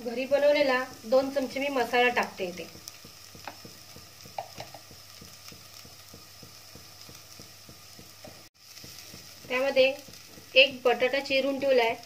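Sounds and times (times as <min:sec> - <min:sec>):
onion and tomato sizzling in oil: 0:00.0 - 0:12.0.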